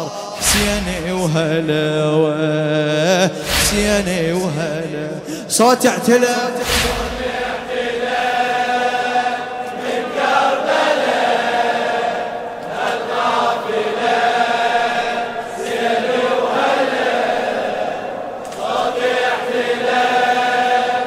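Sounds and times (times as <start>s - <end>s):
crowd of men chanting: 0.0s - 21.0s.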